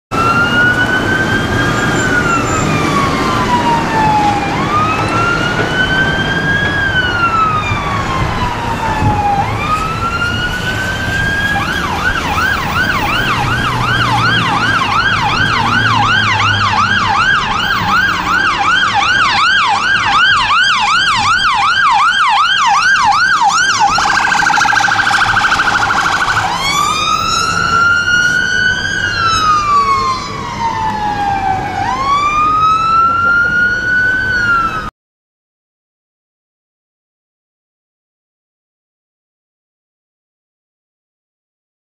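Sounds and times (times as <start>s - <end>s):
fire engine siren: 0.1s - 34.9s
low traffic rumble: 0.1s - 34.9s.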